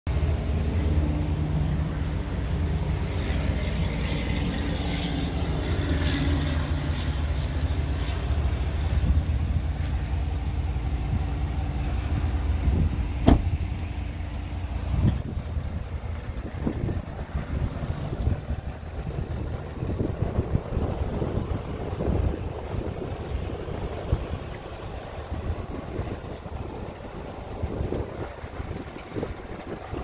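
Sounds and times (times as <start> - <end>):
pickup engine running: 0.1 - 30.0.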